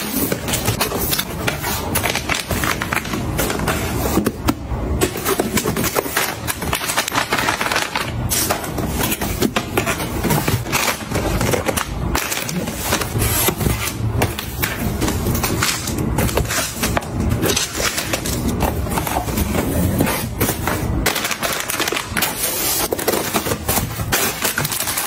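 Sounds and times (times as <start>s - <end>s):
plastic packets crinkling: 0.0s - 25.0s.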